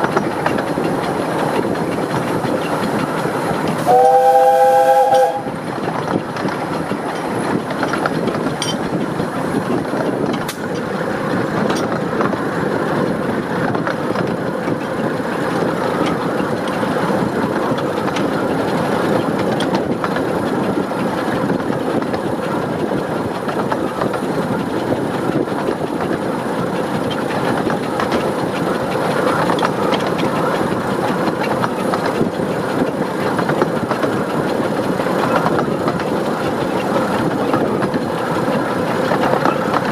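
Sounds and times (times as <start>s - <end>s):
rail and wheel clatter: 0.0s - 39.9s
steam locomotive chimney exhaust: 0.0s - 39.9s.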